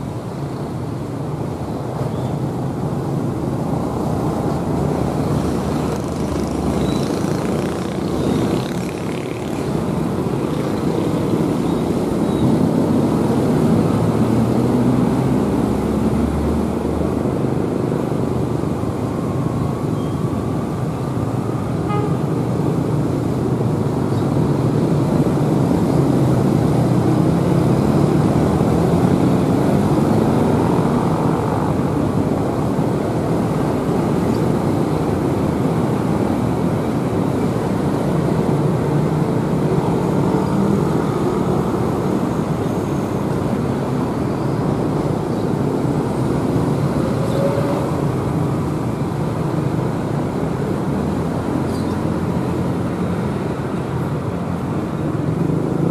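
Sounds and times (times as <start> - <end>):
diesel locomotive engine drone: 0.0 - 55.9.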